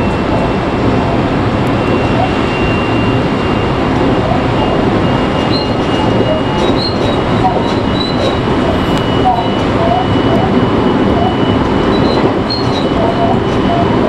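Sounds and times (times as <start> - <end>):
electric train running on rails: 0.0 - 14.0.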